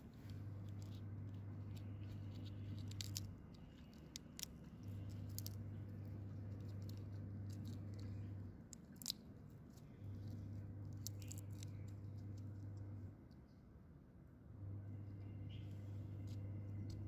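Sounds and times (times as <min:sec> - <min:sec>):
crackles of calyx peeled by hand: 0:00.0 - 0:13.7, 0:15.1 - 0:17.0
low steady hum: 0:00.0 - 0:17.0.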